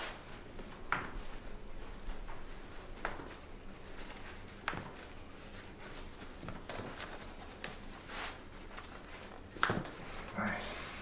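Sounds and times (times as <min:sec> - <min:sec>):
soft clicks and rustles of handling: 0:00.0 - 0:10.5.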